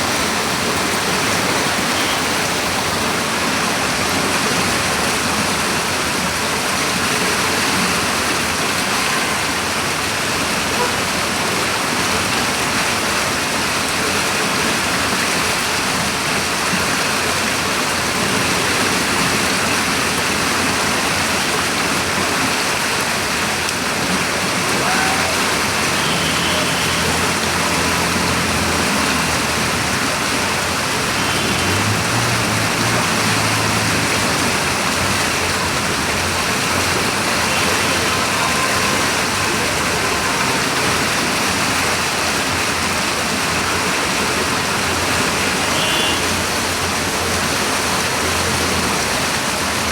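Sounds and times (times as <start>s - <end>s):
water rushing: 0.0s - 49.9s.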